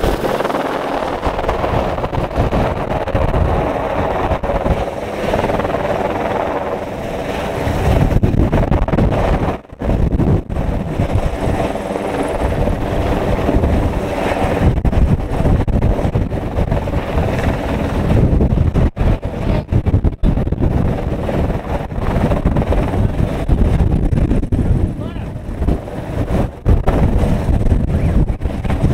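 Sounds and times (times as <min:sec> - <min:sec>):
helicopter hovering: 0:00.0 - 0:28.9
wind buffeting microphone: 0:00.0 - 0:28.9.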